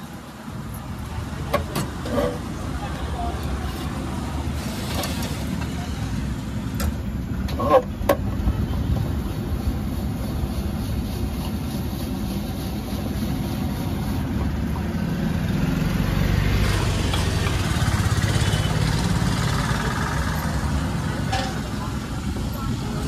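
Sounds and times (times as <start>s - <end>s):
street traffic rumble: 0.0s - 23.0s
vehicle engines idling: 0.0s - 23.0s.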